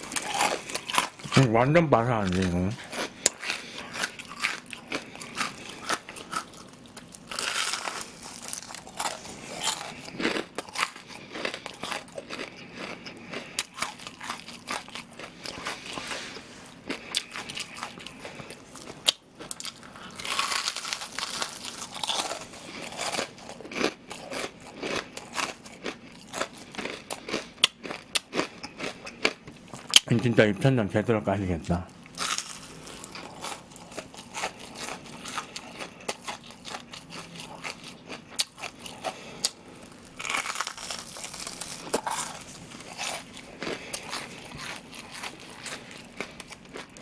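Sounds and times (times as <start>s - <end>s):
crunching and chewing crispy food: 0.0s - 30.4s, 31.9s - 47.0s.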